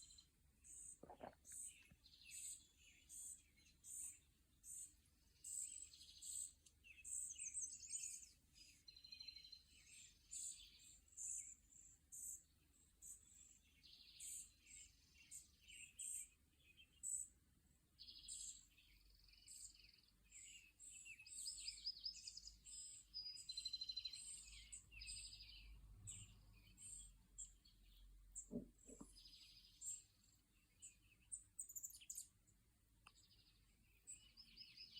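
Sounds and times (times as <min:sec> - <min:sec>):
small songbirds chirping: 0:00.0 - 0:34.9.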